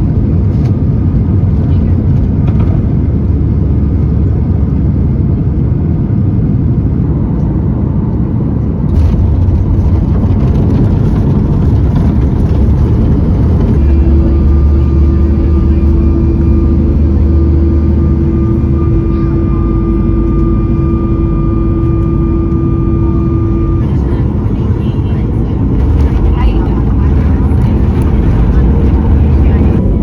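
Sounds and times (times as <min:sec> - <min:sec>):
humming engine tones: 0:00.0 - 0:30.0
jet engine rumble: 0:00.0 - 0:30.0.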